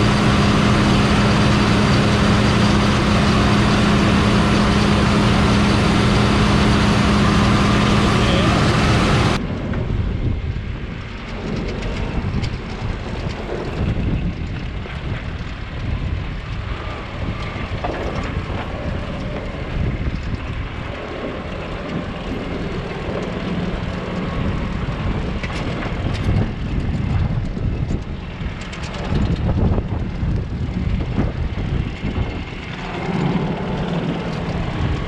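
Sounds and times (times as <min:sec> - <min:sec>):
farm machinery engine rumble: 0:00.0 - 0:35.0.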